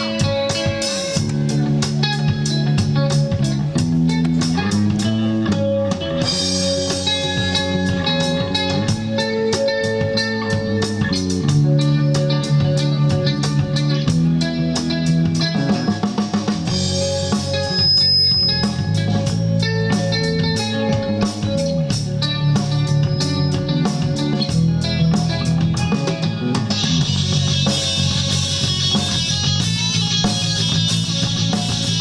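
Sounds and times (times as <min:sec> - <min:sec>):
drum kit steady beat: 0:00.0 - 0:32.0
electric guitar: 0:00.0 - 0:32.0.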